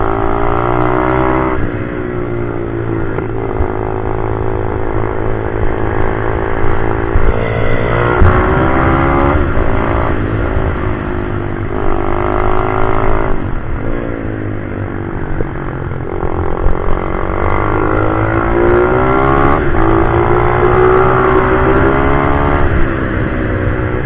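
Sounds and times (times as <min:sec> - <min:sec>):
motorbike engine revving: 0:00.0 - 0:14.4, 0:15.9 - 0:23.8.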